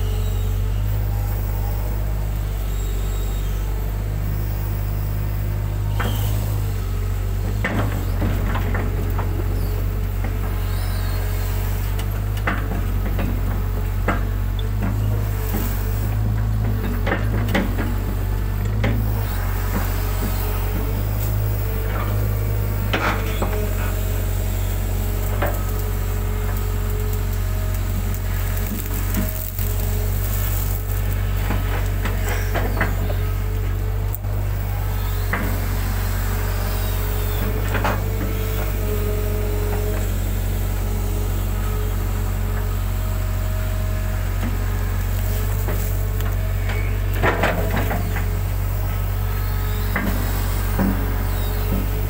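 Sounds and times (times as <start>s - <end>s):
excavator engine hum: 0.0s - 52.0s.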